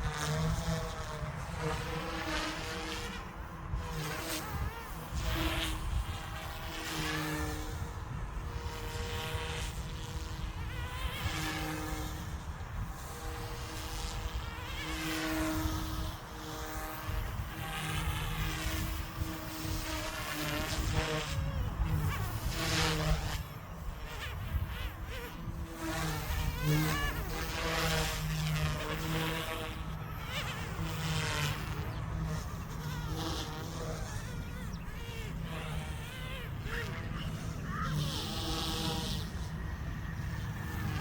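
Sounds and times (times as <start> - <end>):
rc helicopter rotor whine: 0.0 - 41.0.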